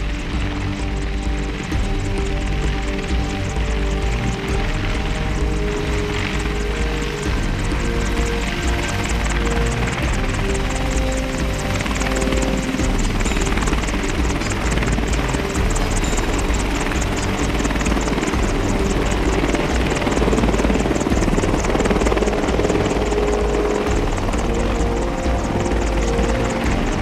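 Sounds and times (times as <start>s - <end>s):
helicopter turbine engines and rotor: 0.0s - 27.0s.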